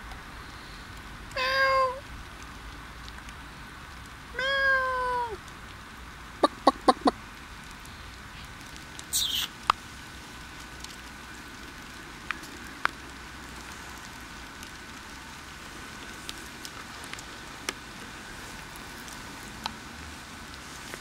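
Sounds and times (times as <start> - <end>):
raindrops ticking on surfaces: 0.0 - 21.0
steady light rain: 0.0 - 21.0.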